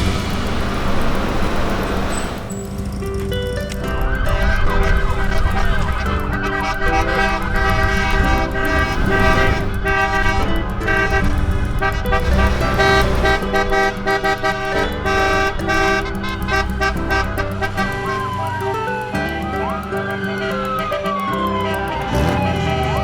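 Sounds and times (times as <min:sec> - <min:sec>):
car horns honking: 0:00.0 - 0:23.0
low rumble of engines: 0:00.0 - 0:23.0.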